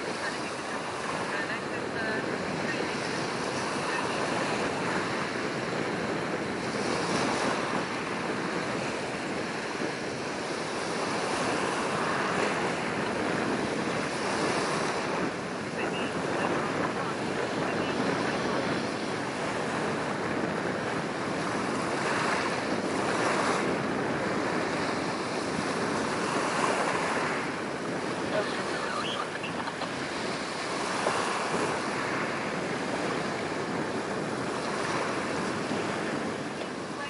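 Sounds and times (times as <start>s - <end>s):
waves washing along shore: 0.0s - 37.0s
wind rumbling on microphone: 0.0s - 37.0s.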